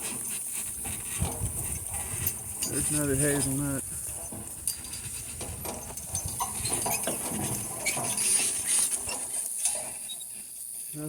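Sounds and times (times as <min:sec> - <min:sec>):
hooves and harness rattling: 0:00.0 - 0:11.0.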